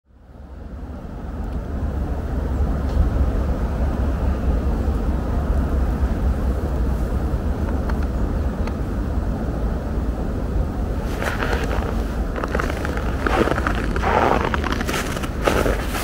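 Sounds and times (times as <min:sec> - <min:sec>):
low outdoor rumble: 0:00.1 - 0:16.0.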